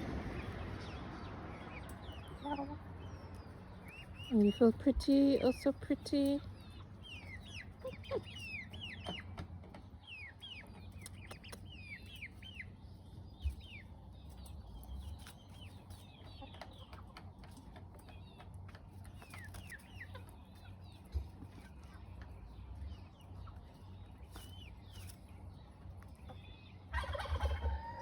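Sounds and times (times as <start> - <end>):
young chickens peeping: 0.0 - 28.0.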